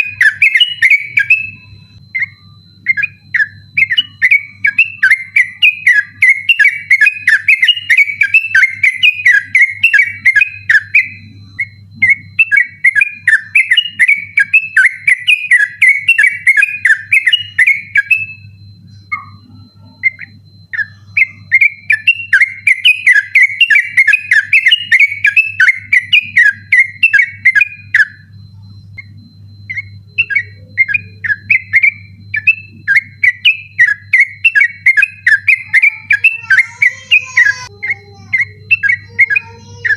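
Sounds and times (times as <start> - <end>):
bulbul singing chirping whistles: 0.0 - 39.9
faint steady hum: 0.0 - 39.9.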